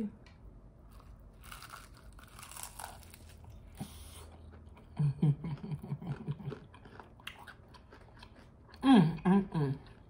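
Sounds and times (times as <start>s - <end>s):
chewing crispy chicken: 0.9s - 10.0s.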